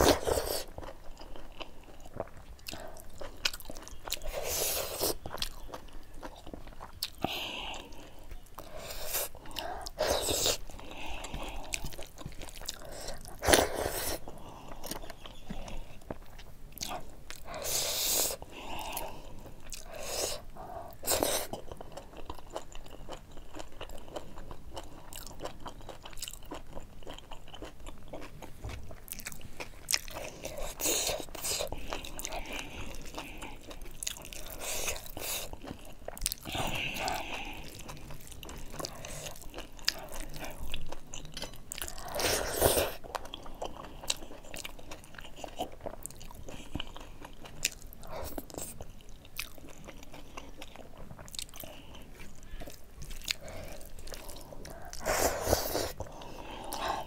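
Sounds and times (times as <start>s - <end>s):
close chewing with mouth clicks: 0.0s - 57.0s.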